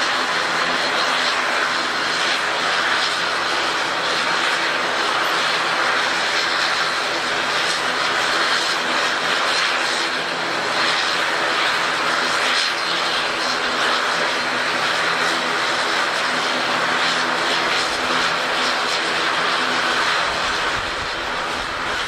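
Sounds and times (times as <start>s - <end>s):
airliner engines running loudly: 0.0s - 22.0s.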